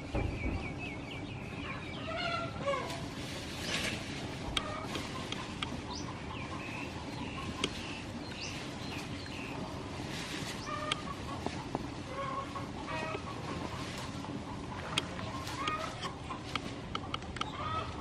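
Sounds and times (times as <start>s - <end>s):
chickens clucking: 0.0s - 18.0s
steady background hum: 0.0s - 18.0s.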